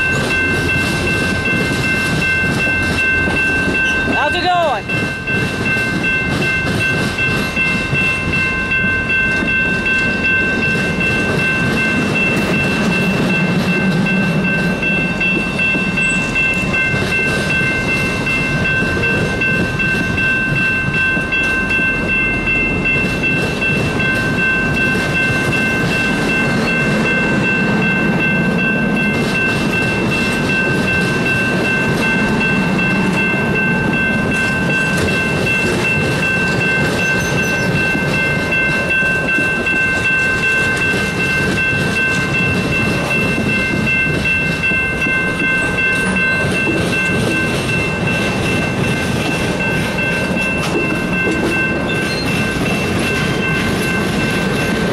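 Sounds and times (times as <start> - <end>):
high ringing tone: 0.0 - 54.9
train wheels rumbling on rail: 0.0 - 54.9.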